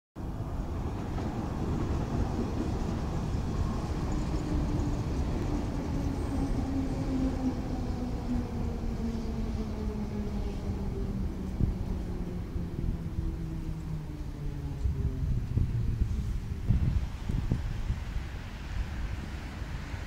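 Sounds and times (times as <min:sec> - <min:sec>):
electric train rumbling past: 0:00.2 - 0:20.0.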